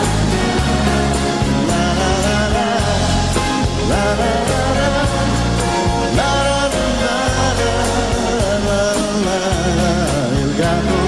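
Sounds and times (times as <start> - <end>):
live band playing pop ballad: 0.0 - 11.0
person singing: 0.0 - 11.0.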